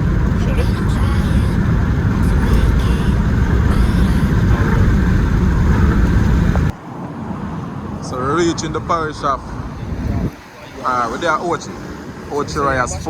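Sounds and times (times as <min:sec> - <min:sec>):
vehicle road and wind rumble: 0:00.0 - 0:13.0.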